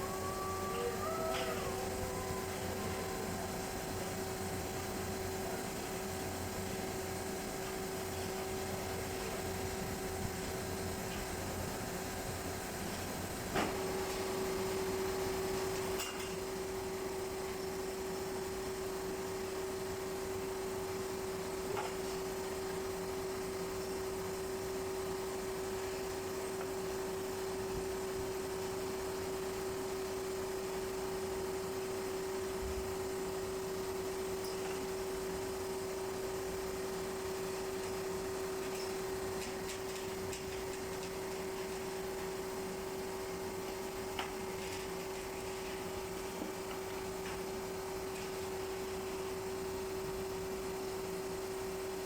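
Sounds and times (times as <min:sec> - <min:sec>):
machine hum with steady tone: 0:00.0 - 0:52.0.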